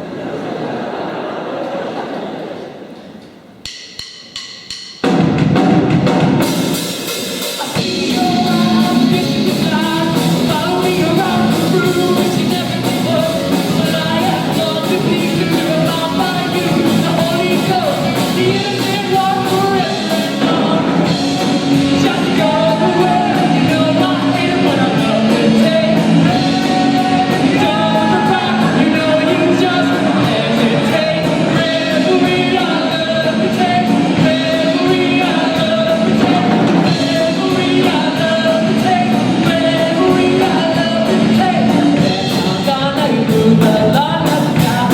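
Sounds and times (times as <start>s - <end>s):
rock band playing live: 4.7s - 44.9s
person singing: 7.5s - 44.9s.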